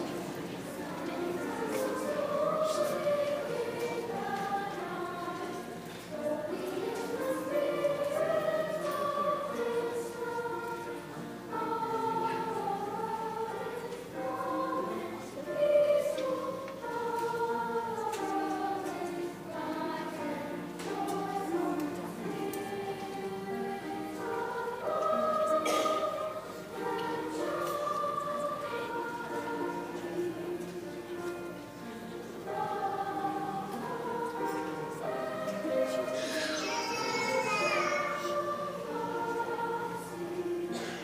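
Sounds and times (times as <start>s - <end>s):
choir singing in harmony: 0.0s - 41.0s.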